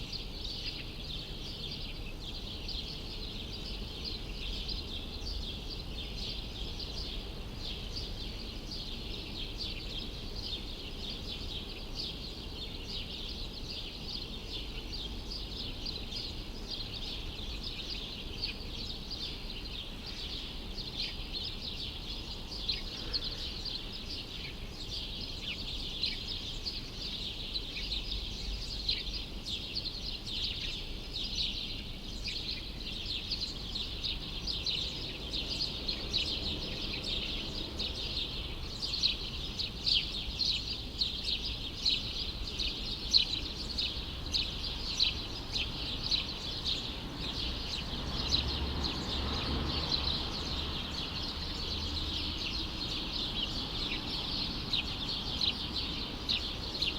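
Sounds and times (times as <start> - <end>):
faint background hum: 0.0 - 48.4
small birds chirping: 0.0 - 56.9.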